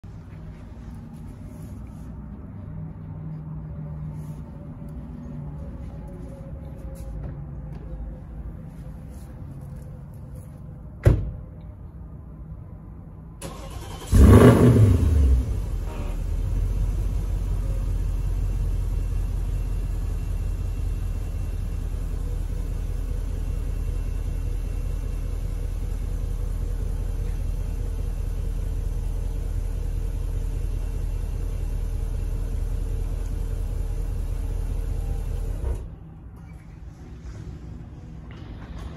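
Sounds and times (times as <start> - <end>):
car engine starting and idling: 0.0 - 38.9.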